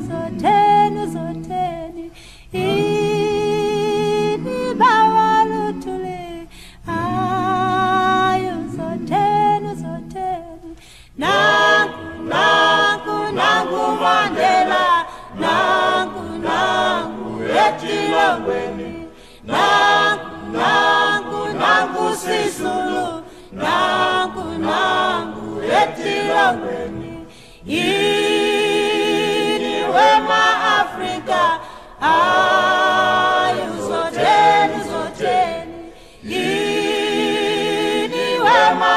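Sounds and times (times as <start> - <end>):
a cappella choir singing: 0.0 - 38.9.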